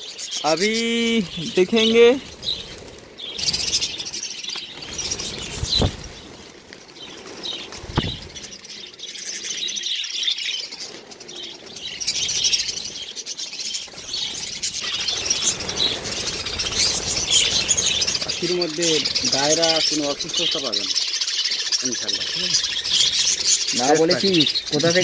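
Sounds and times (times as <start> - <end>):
budgerigars chirping and chattering: 0.0 - 25.0
wings flapping: 0.2 - 9.8, 10.5 - 25.0.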